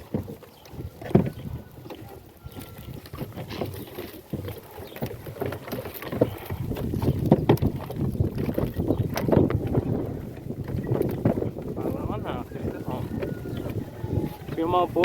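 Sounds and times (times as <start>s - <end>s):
cart rolling over rough ground: 0.0s - 15.0s
knocking and rattling: 2.9s - 15.0s.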